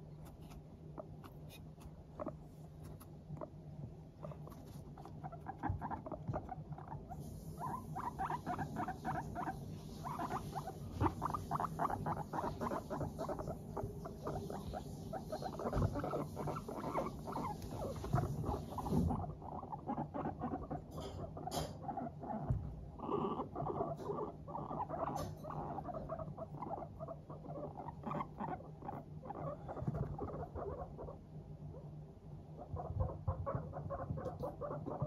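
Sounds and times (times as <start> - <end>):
guinea pigs chutting: 0.0 - 35.0.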